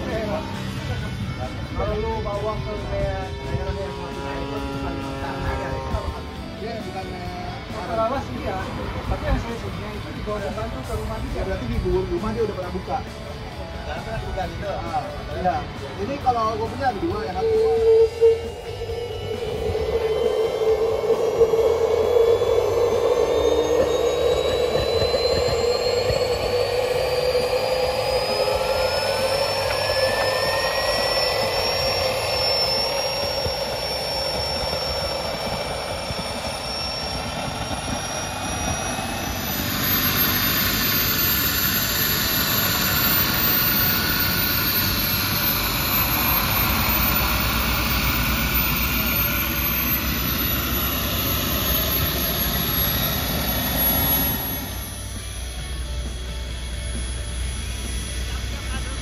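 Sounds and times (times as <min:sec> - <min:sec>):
model turbine engine whine: 0:00.0 - 0:59.0.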